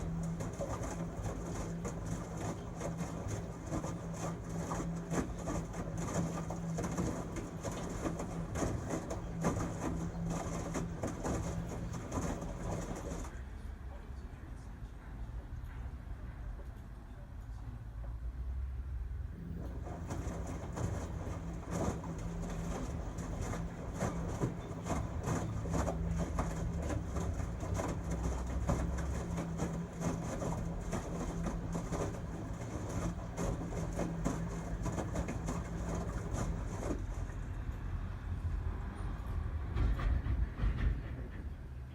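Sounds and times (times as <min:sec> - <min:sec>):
washing machine motor hum: 0:00.0 - 0:13.9, 0:19.1 - 0:40.9.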